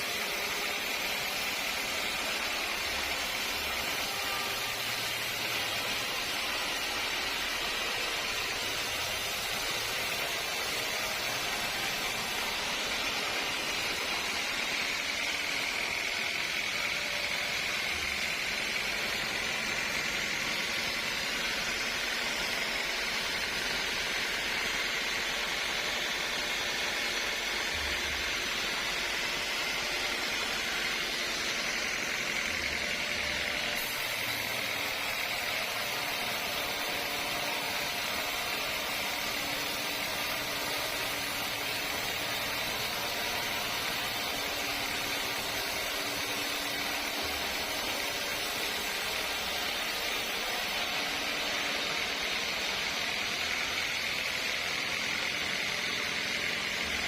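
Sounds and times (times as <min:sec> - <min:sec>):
sawmill machinery hissing and humming: 0:00.0 - 0:57.0.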